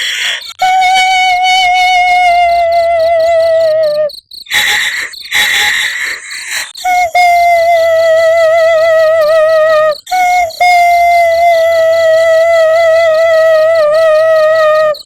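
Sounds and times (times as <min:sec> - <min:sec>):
ghostly female wailing and sobbing: 0:00.0 - 0:15.0
high cricket-like pulsing: 0:00.0 - 0:15.0.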